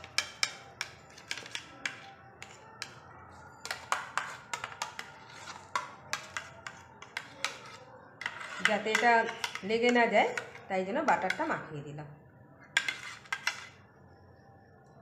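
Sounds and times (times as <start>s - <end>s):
spoon scraping plastic tray: 0.0s - 3.0s, 3.6s - 11.6s, 12.7s - 13.8s.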